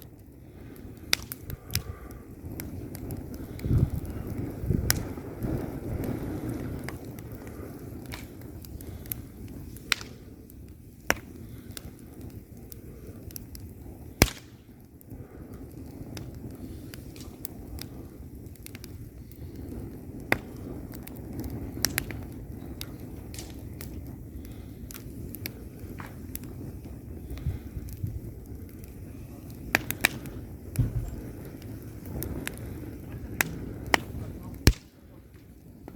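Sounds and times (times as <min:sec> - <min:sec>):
fire flames rumbling: 0:00.0 - 0:35.9
wood crackling and popping: 0:00.0 - 0:35.9.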